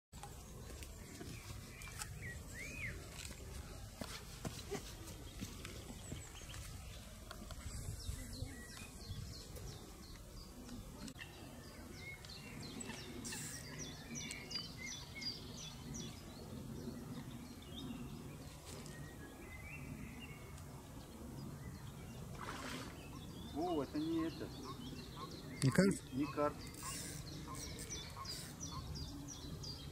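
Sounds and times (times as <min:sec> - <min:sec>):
songbirds chirping: 0:00.2 - 0:29.9.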